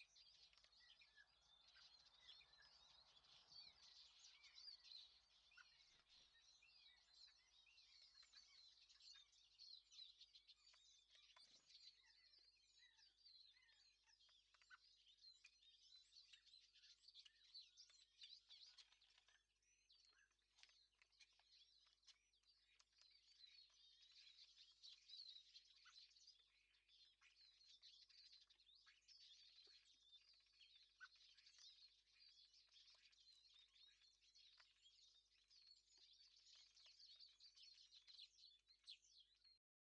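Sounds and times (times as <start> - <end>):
faint birdsong: 0.0 - 39.9.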